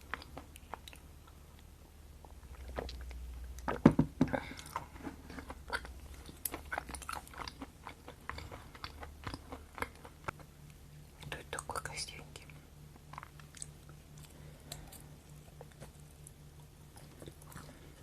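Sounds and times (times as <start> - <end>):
chewing with wet mouth clicks: 0.0 - 3.8, 4.5 - 11.4, 12.5 - 18.0.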